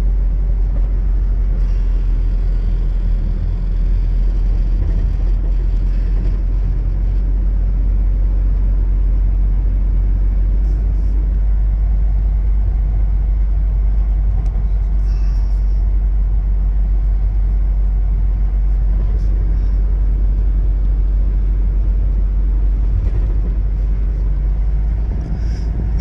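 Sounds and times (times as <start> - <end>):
pickup truck road and engine rumble: 0.0 - 26.0.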